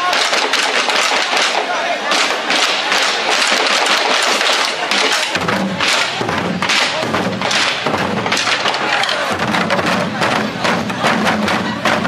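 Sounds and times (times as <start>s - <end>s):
barrel drums beaten with sticks: 0.0s - 12.0s.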